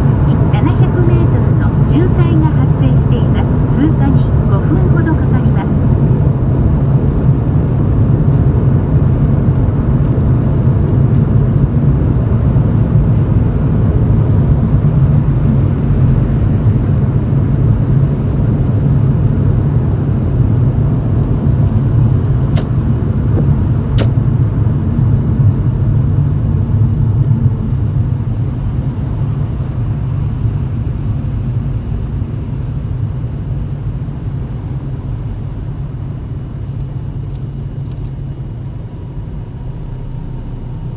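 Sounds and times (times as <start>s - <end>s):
car exhaust low drone: 0.0s - 40.9s.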